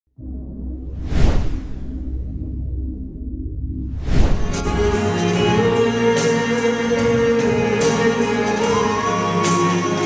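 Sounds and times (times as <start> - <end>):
background music: 0.2 - 10.0.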